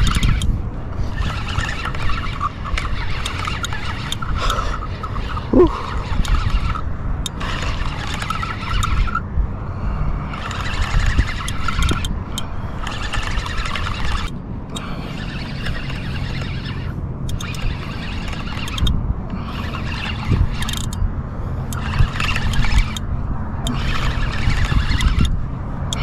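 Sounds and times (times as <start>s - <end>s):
fishing reel gears whirring: 0.0s - 26.0s
wind rumble on microphone: 0.0s - 26.0s.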